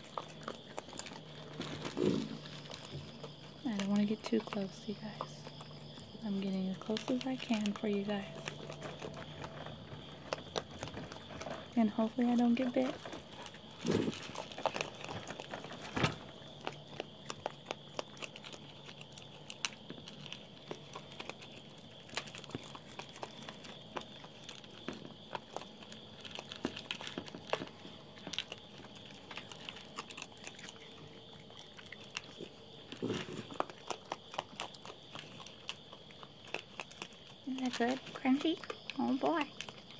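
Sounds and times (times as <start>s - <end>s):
animals crunching dry kibble: 0.0s - 39.9s.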